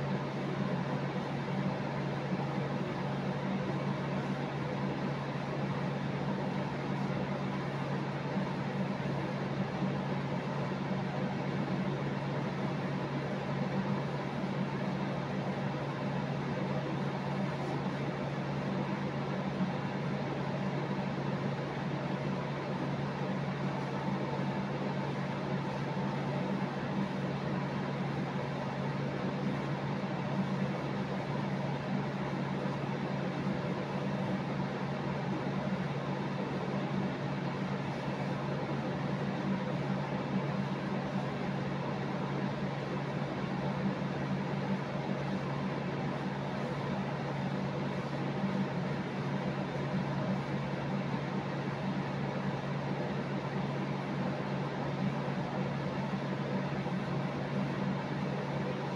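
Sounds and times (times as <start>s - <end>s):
steady machine hum: 0.0s - 58.9s.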